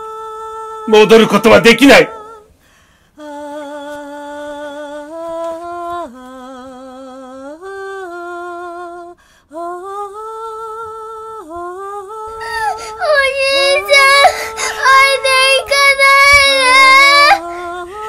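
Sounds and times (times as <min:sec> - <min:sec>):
wordless voice singing: 0:00.0 - 0:02.6, 0:03.2 - 0:18.0.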